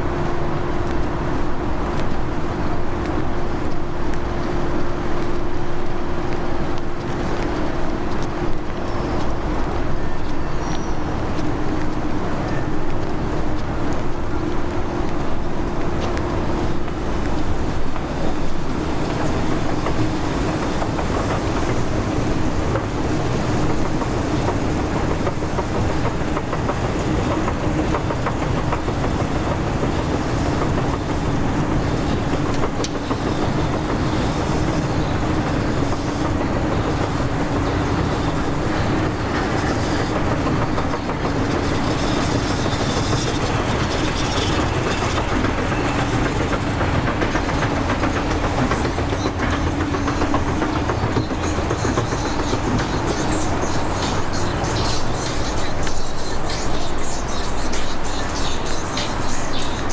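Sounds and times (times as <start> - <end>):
vehicle running heard on board: 0.0 - 59.9.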